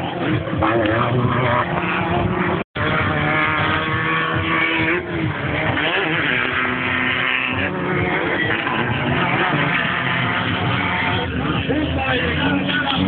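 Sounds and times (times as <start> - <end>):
off-road vehicle engines revving: 0.0 - 13.0.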